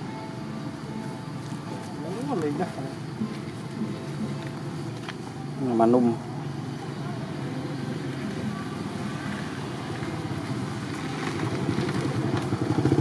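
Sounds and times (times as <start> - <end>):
small engine idling: 0.3 - 13.0.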